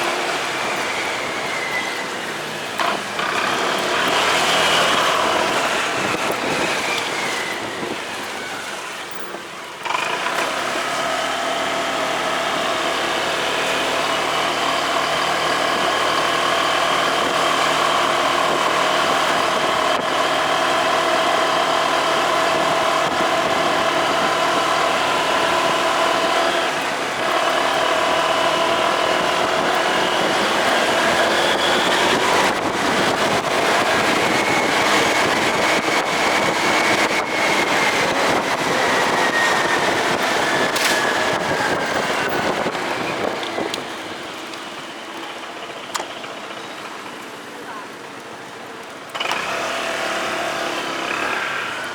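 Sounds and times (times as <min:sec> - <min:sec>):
motorcycle engine: 0:00.0 - 0:08.1, 0:09.7 - 0:47.6, 0:48.8 - 0:51.9
road noise: 0:00.0 - 0:51.9.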